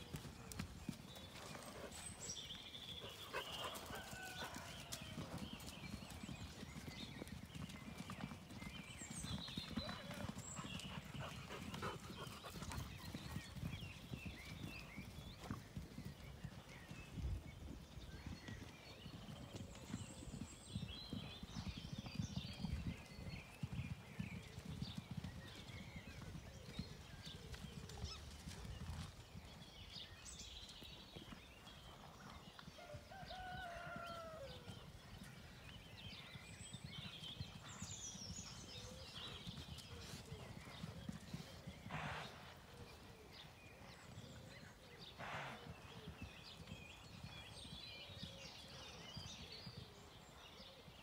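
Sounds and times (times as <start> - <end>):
horse hooves galloping on turf: 0.0 - 43.2.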